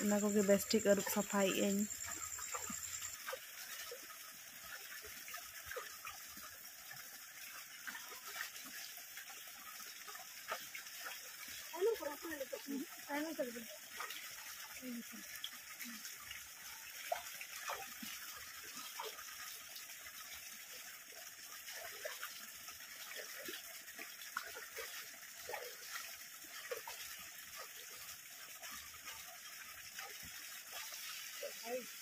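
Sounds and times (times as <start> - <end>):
stream water trickling and gurgling: 0.0 - 32.0.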